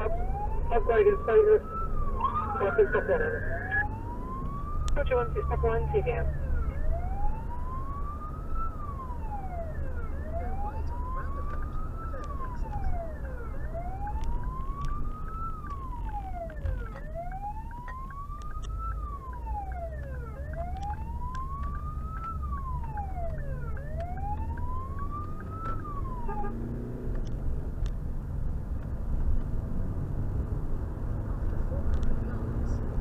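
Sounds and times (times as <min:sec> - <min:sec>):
siren wailing: 0:00.0 - 0:26.8
engine and road rumble: 0:00.0 - 0:33.0.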